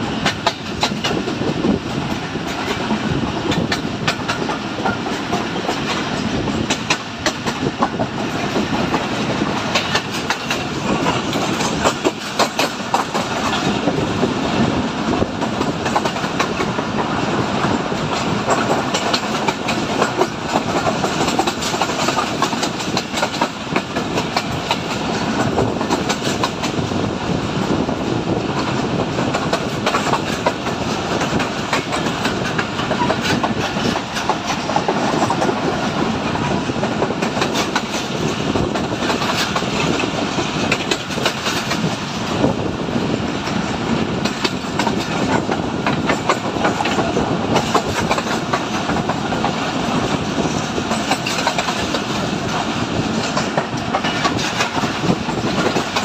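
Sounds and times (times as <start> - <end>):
train wheels rumbling on rails: 0.0 - 56.0
wheels clicking on rail joints: 0.0 - 56.0.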